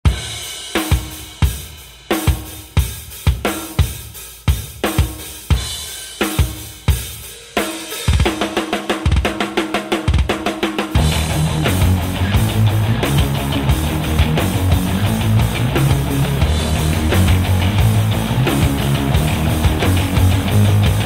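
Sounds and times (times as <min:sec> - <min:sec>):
rock drum kit playing: 0:00.0 - 0:21.0.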